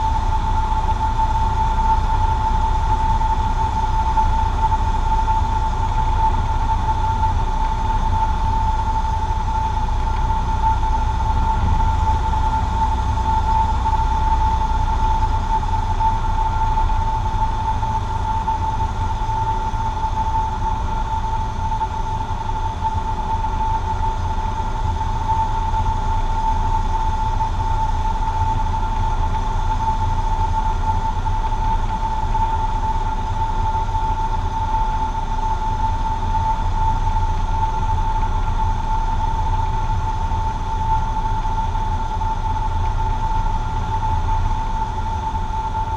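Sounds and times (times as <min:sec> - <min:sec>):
aircraft engine and propeller drone: 0:00.0 - 0:45.9
steady high whine: 0:00.0 - 0:45.9.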